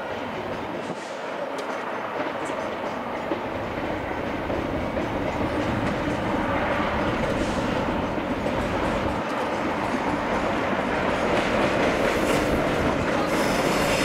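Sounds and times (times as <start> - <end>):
train wheels rumbling over rails: 0.0 - 14.0.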